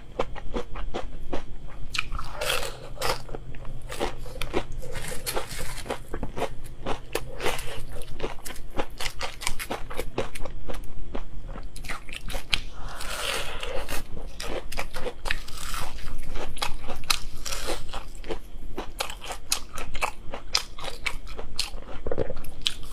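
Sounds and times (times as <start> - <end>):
crispy fried chicken crunching: 0.2 - 22.9.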